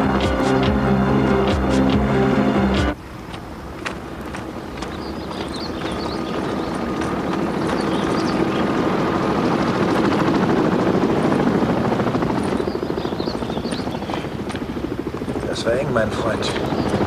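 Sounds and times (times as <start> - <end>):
helicopter rotor chopping: 0.0 - 2.2, 2.8 - 17.0.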